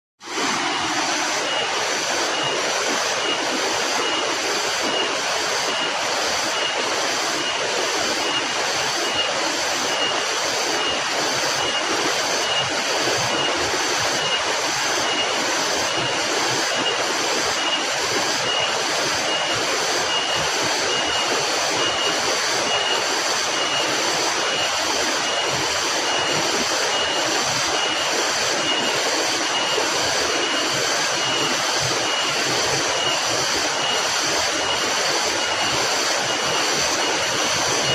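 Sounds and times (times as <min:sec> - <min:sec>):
steady rushing noise: 0:00.2 - 0:37.9.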